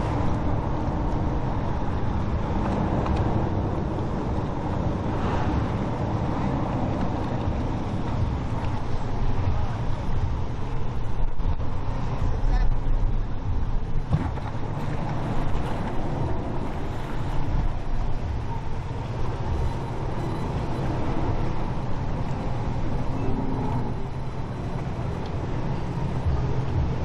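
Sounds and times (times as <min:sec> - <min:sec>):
boat diesel engines droning: 0:00.0 - 0:27.0.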